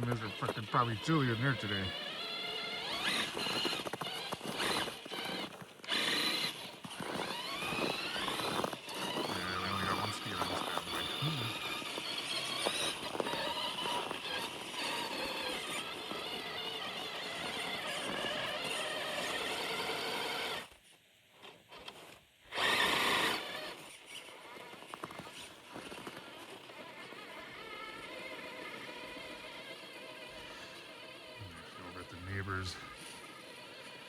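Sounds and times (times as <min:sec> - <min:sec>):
rc car electric motor whining: 0:00.0 - 0:20.8, 0:21.4 - 0:34.0.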